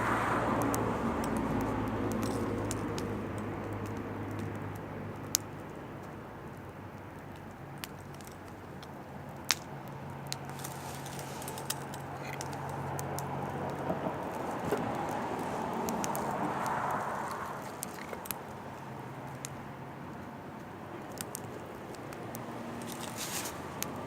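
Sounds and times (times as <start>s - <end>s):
firewood crackling and popping: 0.0s - 24.0s.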